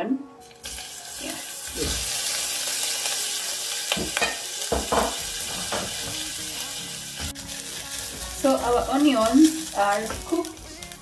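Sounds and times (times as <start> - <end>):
onion sizzling in hot oil: 0.4 - 11.0.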